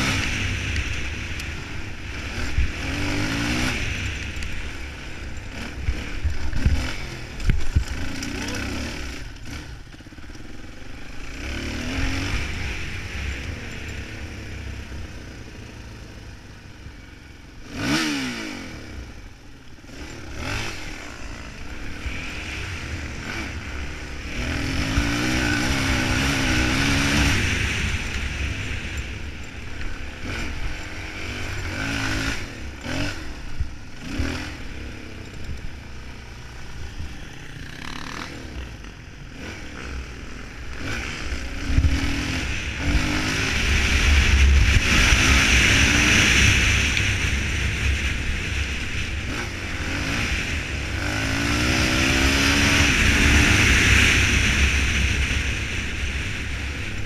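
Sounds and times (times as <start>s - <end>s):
motorcycle engine under load: 0.0s - 57.0s.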